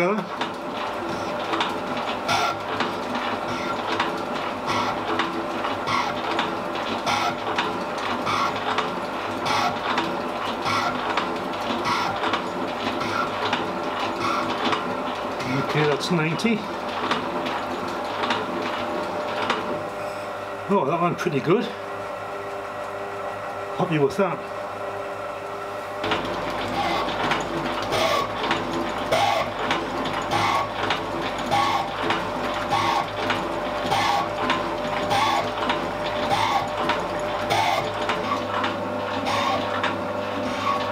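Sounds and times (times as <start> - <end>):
metal shaping machine cutting: 0.0 - 20.3, 25.4 - 40.9.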